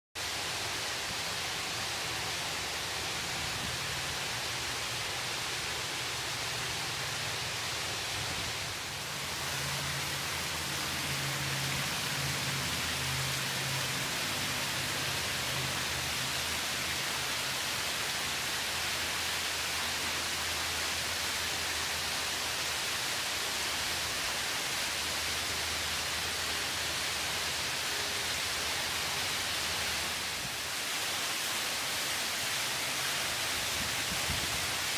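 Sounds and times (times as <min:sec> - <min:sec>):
fountain water rushing and splashing: 0:00.2 - 0:34.9.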